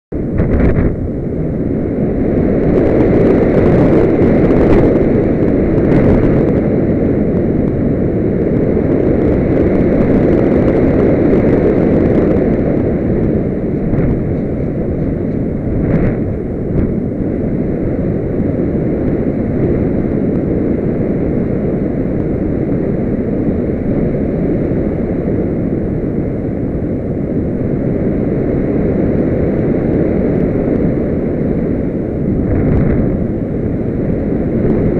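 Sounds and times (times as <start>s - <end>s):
wind rushing over microphone: 0.1s - 34.9s.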